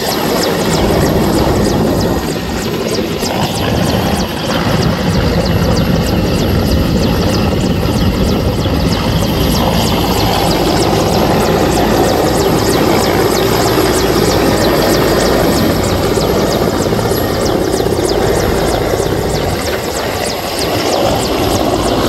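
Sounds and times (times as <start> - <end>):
helicopter rotor chopping: 0.0 - 22.0.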